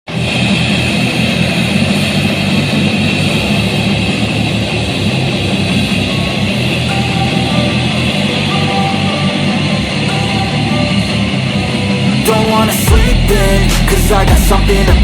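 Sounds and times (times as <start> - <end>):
electric guitar: 0.1 - 15.0
loud rock music: 0.1 - 15.0.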